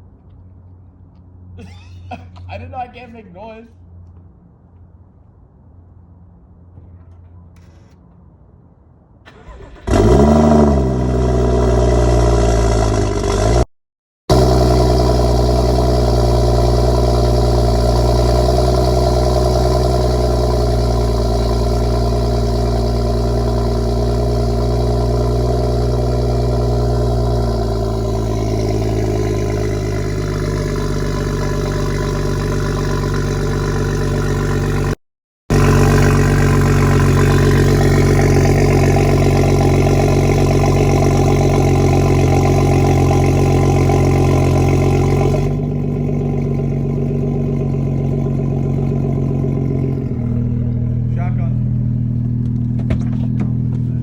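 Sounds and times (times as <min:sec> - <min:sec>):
car engine starting and idling: 0:09.2 - 0:13.7, 0:14.3 - 0:54.0.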